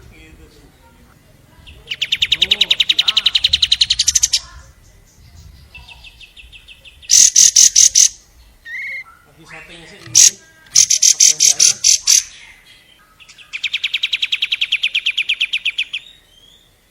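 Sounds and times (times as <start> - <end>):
bird trilling: 1.6 - 16.7
harsh bird calls: 1.6 - 16.8.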